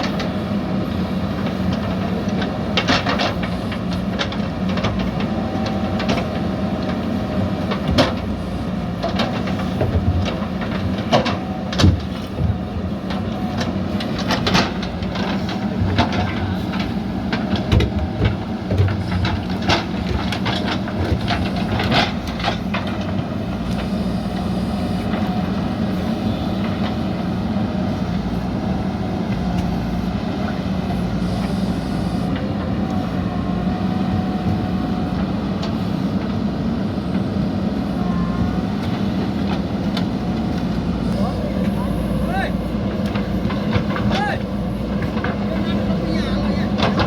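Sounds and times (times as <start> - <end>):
diesel engine running under load: 0.0 - 47.0.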